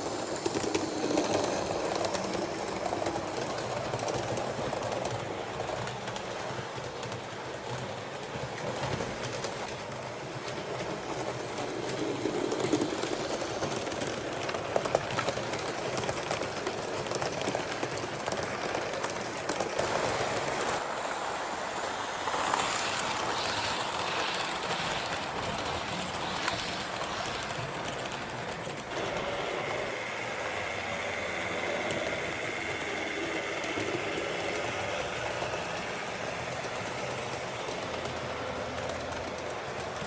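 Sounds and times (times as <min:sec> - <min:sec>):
train rolling on track: 0:00.0 - 0:40.0.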